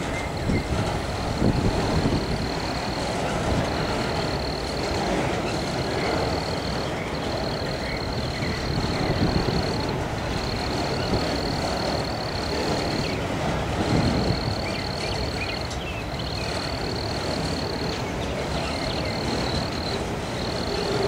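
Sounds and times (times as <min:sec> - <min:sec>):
freight train wheels clattering: 0:00.0 - 0:21.0.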